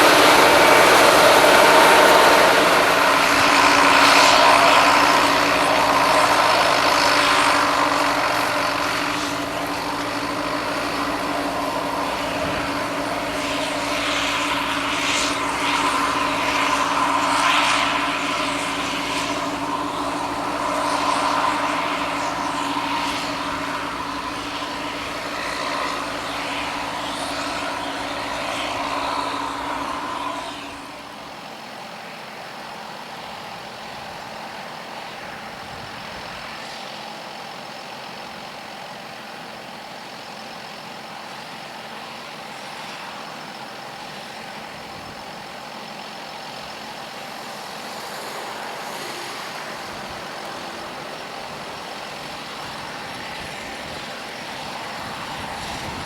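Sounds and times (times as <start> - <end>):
distant machinery drone: 0.0 - 56.0
engine humming: 0.0 - 56.0.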